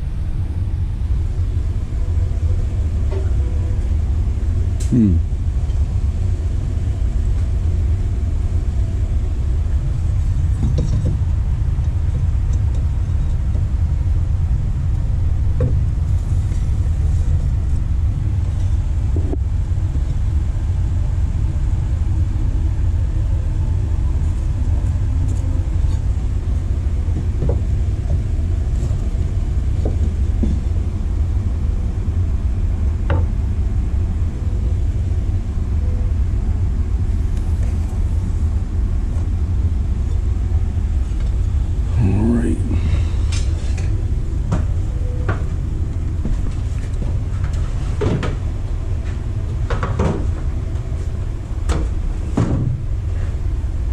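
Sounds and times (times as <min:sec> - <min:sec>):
low rumble: 0:00.0 - 0:53.9.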